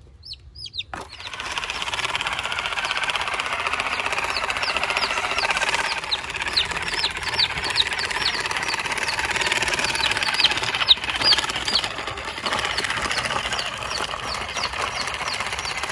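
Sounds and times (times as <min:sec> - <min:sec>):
chick peeping: 0:00.0 - 0:01.5, 0:02.1 - 0:15.9
toy electric motor buzzing: 0:00.6 - 0:15.9.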